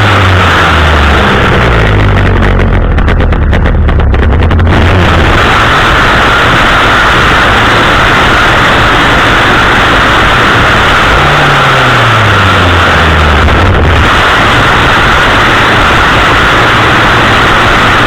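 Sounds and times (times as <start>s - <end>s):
chainsaw running: 0.0s - 18.0s.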